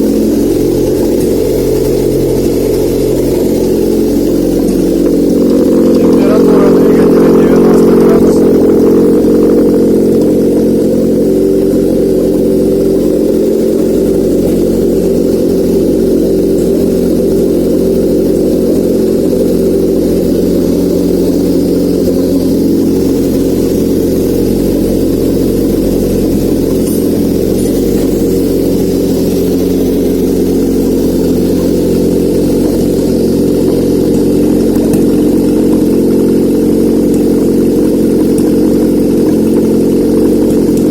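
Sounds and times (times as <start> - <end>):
four-cylinder engine running: 0.0 - 40.9.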